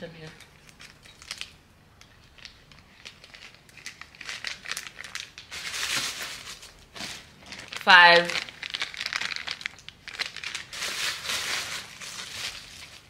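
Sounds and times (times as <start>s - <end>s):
packaging crinkling and rustling: 0.2s - 13.0s.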